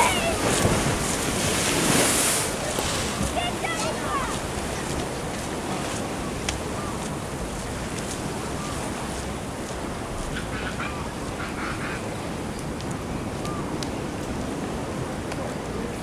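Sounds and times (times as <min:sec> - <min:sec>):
surf washing: 0:00.0 - 0:16.0
wind on microphone: 0:00.0 - 0:16.0.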